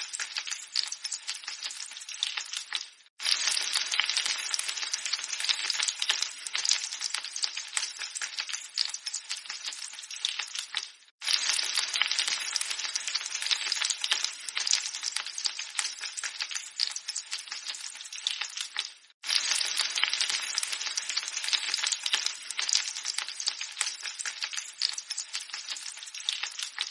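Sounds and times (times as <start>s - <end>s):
egg sizzling in hot fat: 0.0s - 26.9s.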